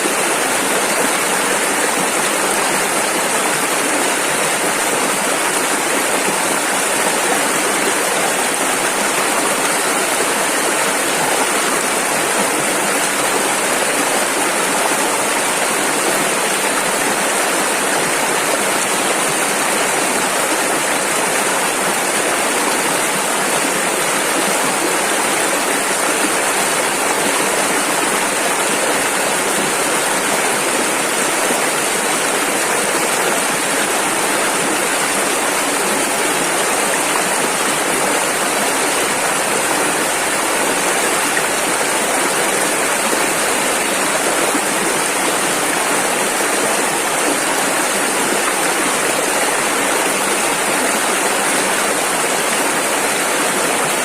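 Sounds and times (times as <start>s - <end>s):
rushing river rapids: 0.0s - 54.0s.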